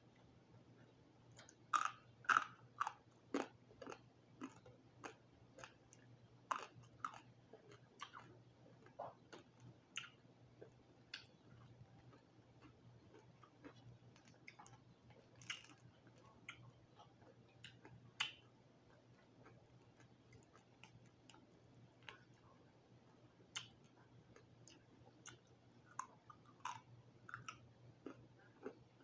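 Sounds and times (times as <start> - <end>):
faint chewing of crispy food: 0.1 - 29.0.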